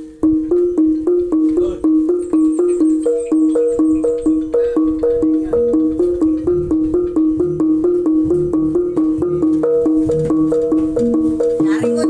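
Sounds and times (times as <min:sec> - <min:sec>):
small kettle gongs played: 0:00.0 - 0:12.0.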